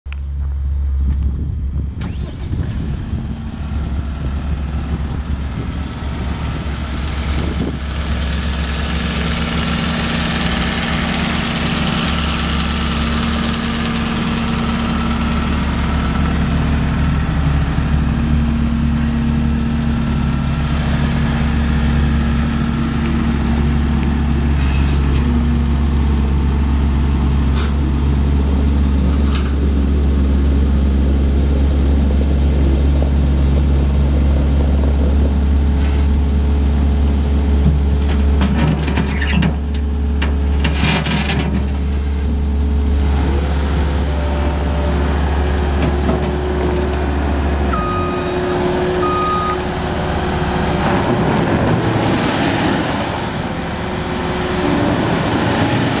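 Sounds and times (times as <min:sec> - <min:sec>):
diesel engine idling: 0:00.1 - 0:38.5, 0:41.6 - 0:56.0.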